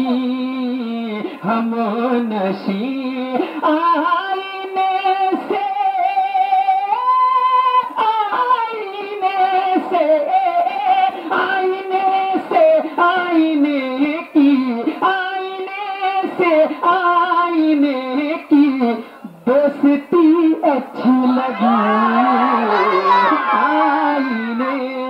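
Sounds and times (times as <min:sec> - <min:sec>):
person singing with vibrato: 0:00.0 - 0:25.0.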